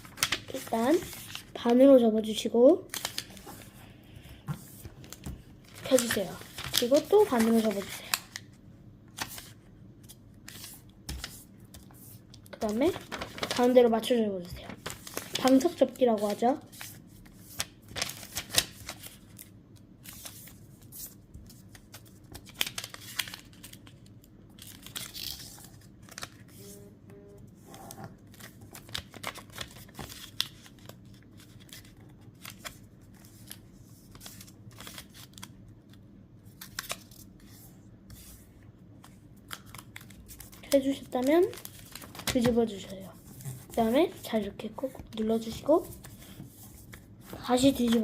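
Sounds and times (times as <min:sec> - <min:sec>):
paper rustling and crinkling: 0:00.0 - 0:03.8, 0:04.6 - 0:08.6, 0:09.2 - 0:26.8, 0:27.5 - 0:48.0.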